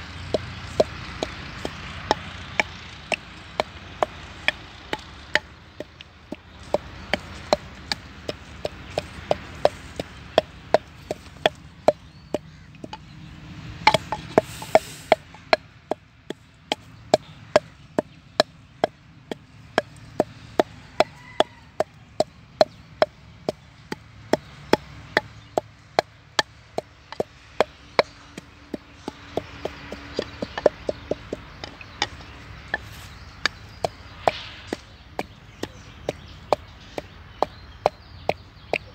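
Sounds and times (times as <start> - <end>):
blade chopping plants: 0.0 - 38.9.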